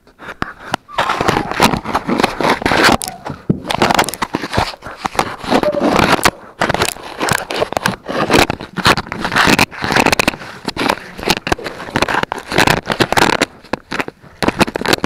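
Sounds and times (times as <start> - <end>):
puppies chewing on plastic: 0.0 - 15.0.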